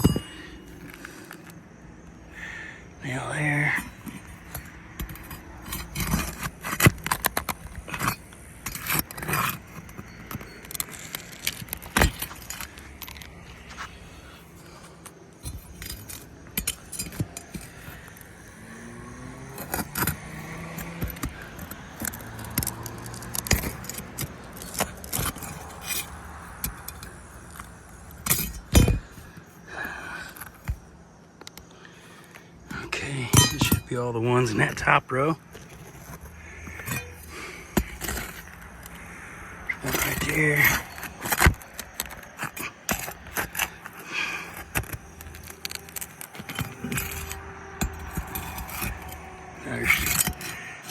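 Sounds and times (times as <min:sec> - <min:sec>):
pry bar scraping roofing nails: 0:00.0 - 0:01.6, 0:03.7 - 0:30.9, 0:31.5 - 0:50.9.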